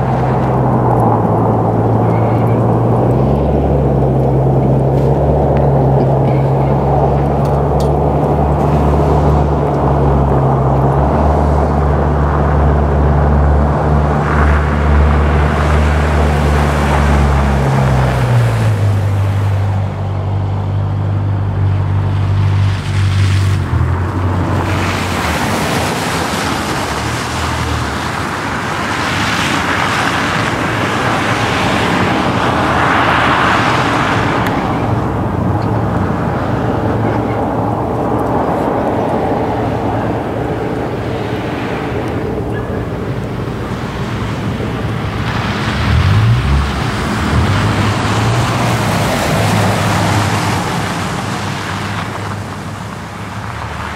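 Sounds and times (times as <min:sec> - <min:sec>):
vehicle engine humming: 0:00.0 - 0:53.9
wind and road noise: 0:00.0 - 0:53.9.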